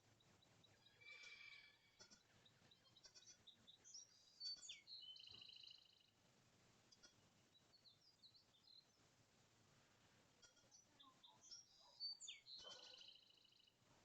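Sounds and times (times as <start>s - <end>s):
songbirds chirping and calling: 0.0s - 6.2s, 6.8s - 14.0s.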